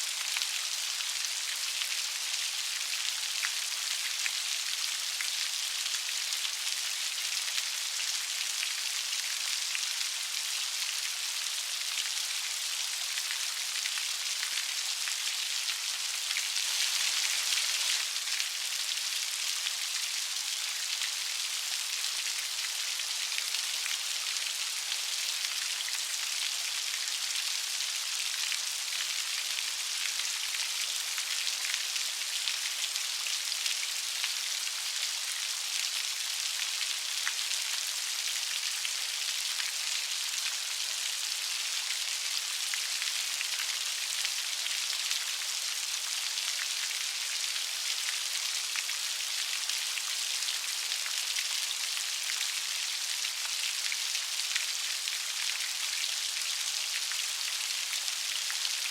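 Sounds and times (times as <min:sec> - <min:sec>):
light rain pattering: 0:00.0 - 0:58.9.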